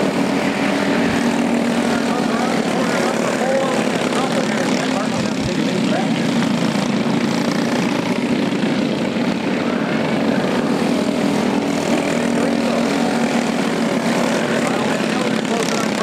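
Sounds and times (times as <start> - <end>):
go-kart engines droning: 0.0 - 16.0.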